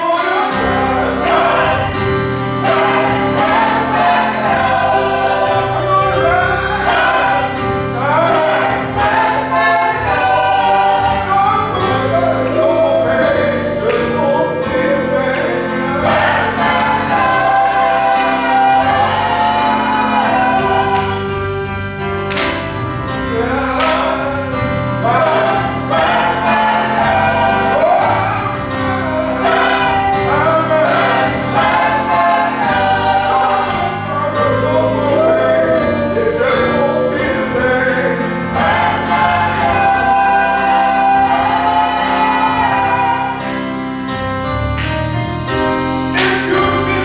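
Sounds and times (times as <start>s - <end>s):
choir singing gospel: 0.0s - 47.0s
instrumental accompaniment: 0.0s - 47.0s.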